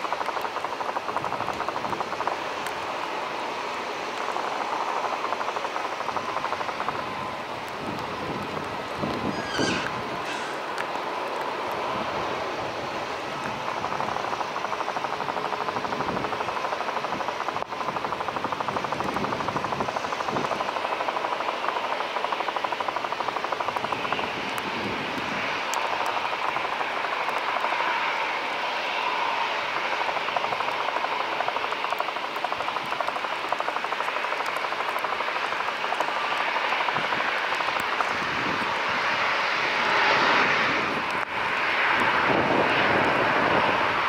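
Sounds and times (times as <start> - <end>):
jet engines idling: 0.0 - 44.0
taxiing airliner engines: 0.0 - 44.0.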